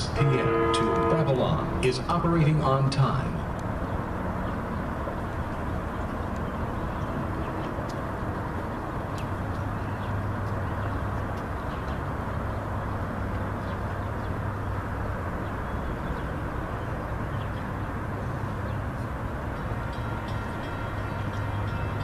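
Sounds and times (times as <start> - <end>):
diesel train rumbling: 0.0 - 22.0.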